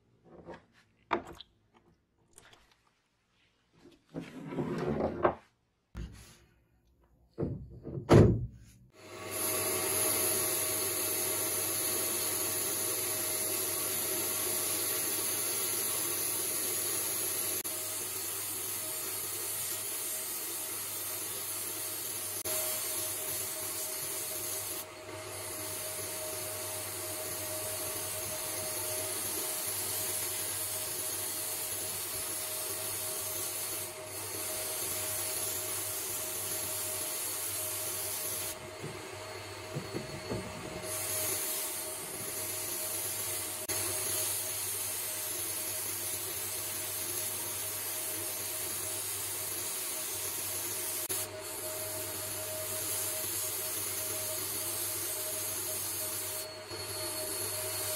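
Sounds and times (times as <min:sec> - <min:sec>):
sandblast gun hissing: 0:09.0 - 0:38.6, 0:40.8 - 0:57.9.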